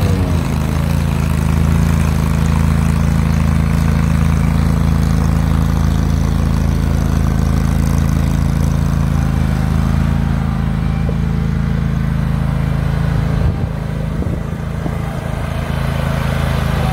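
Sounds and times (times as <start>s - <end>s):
mower engine running: 0.0s - 16.9s.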